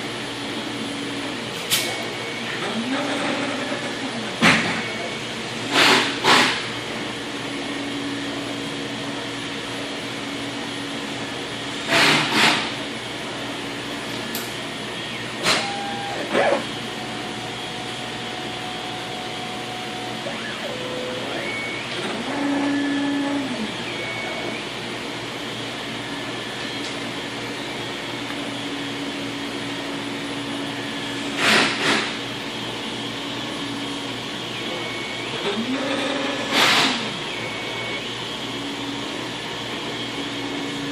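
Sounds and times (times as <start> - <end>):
cnc router running: 0.0 - 40.9.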